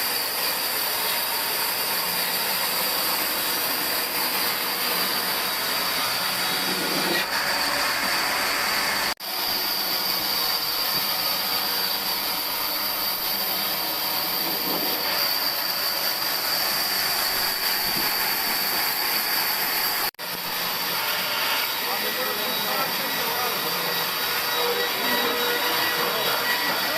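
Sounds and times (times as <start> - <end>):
sawmill saw cutting timber: 0.0 - 26.9.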